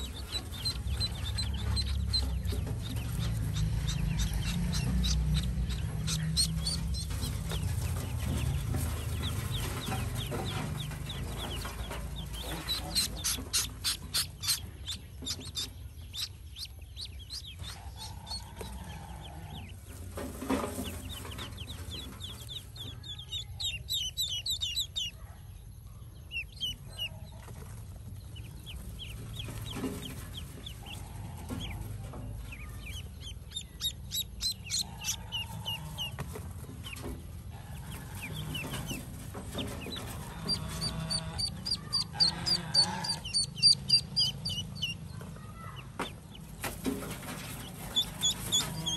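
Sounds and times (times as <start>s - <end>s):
ducklings peeping: 0.0s - 48.9s.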